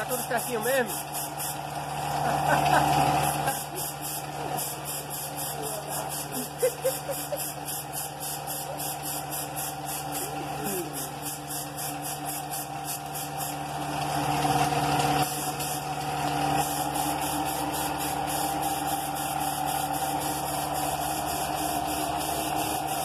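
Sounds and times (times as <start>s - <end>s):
spray gun hissing: 0.0s - 1.6s, 3.2s - 13.7s, 15.2s - 16.0s, 16.6s - 23.0s
air compressor humming: 0.0s - 23.0s.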